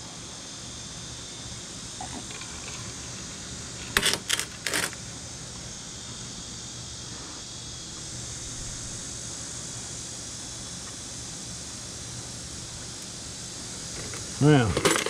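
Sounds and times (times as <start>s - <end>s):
insect hiss: 0.0s - 15.0s.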